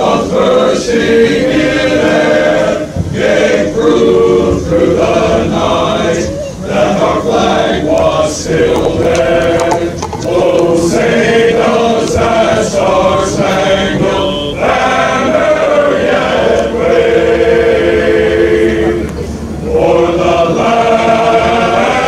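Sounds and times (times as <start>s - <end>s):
men's choir singing a cappella: 0.0s - 22.0s.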